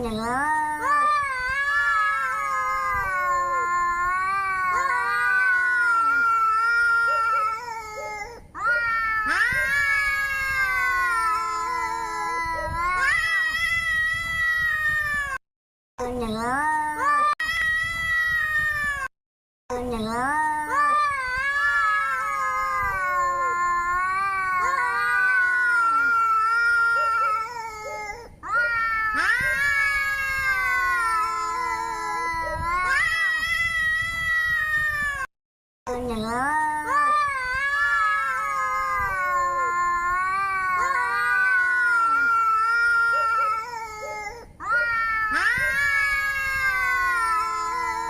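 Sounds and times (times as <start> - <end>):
angry cat yowling: 1.2 - 15.4, 21.4 - 35.3, 37.0 - 48.0.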